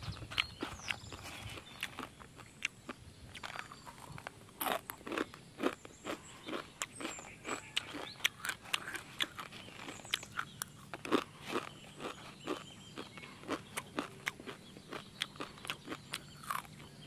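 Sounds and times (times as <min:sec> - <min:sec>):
dry noodles crunching while chewed: 0:00.0 - 0:17.0.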